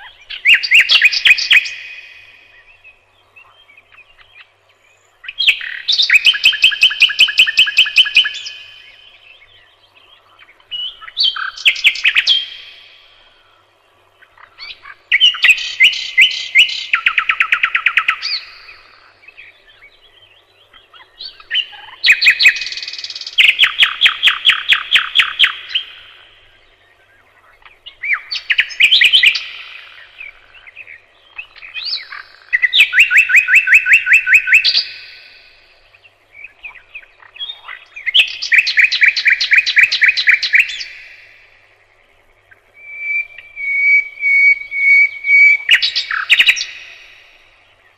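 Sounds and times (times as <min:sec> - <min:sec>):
nightingale singing: 0:00.0 - 0:47.9.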